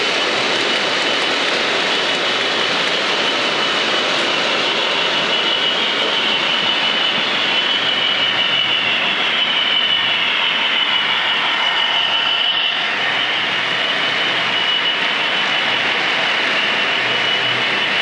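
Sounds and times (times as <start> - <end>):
high motor whine: 0.0 - 18.0.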